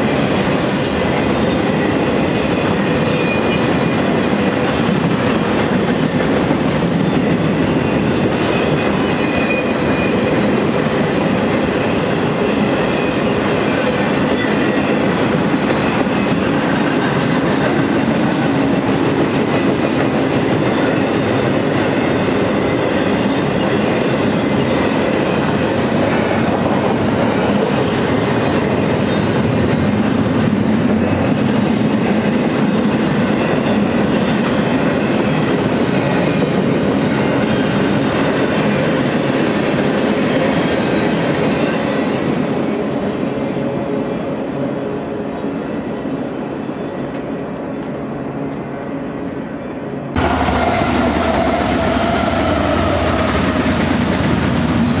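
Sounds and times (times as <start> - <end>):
train wheels rumbling on rails: 0.0 - 45.7, 47.0 - 55.0.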